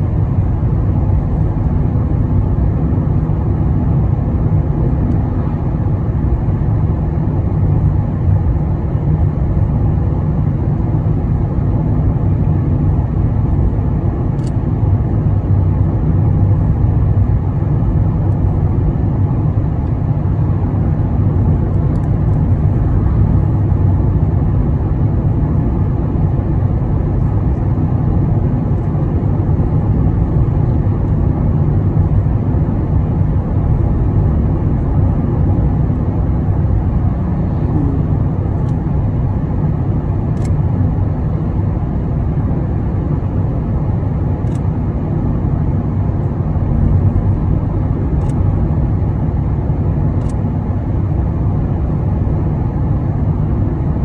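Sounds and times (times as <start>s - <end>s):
car driving at highway speed: 0.0s - 54.0s.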